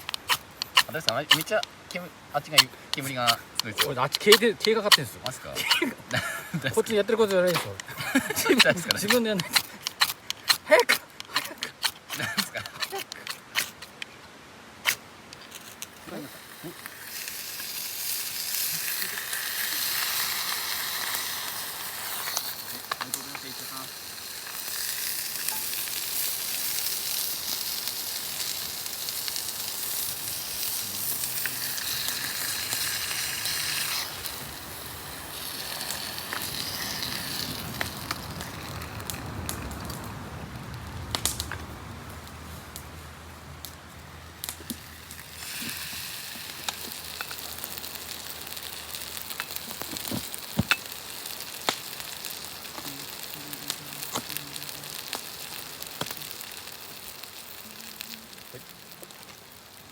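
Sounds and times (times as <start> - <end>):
fire popping and crackling: 0.0 - 14.2, 14.8 - 59.9
campfire hissing: 0.0 - 59.9.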